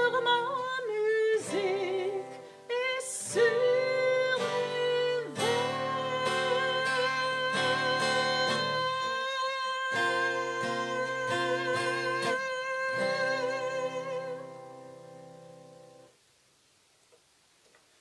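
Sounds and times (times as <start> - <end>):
woman singing: 0.0 - 14.9
strummed acoustic guitar: 0.0 - 16.1.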